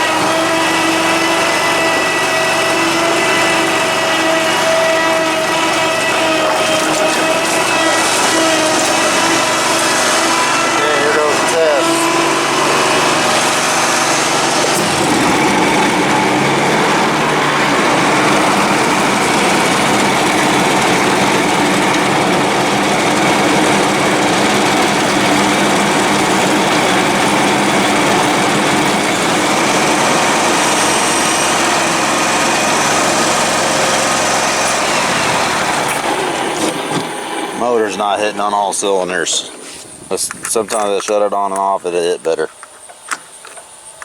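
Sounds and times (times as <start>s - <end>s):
riding mower engine misfiring: 0.0s - 44.0s.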